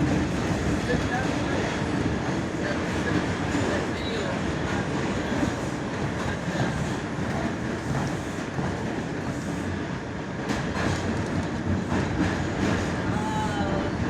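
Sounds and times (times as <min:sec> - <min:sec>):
subway car rumbling on track: 0:00.0 - 0:14.0.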